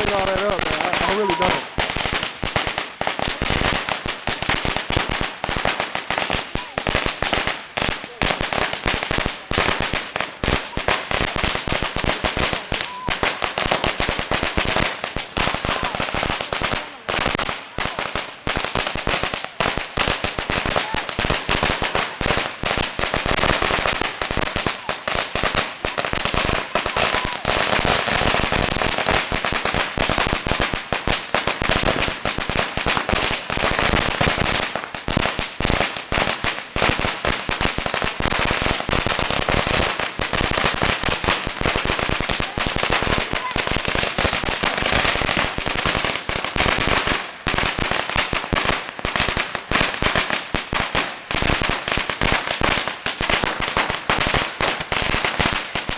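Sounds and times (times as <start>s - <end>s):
firecracker string crackling: 0.0s - 55.9s.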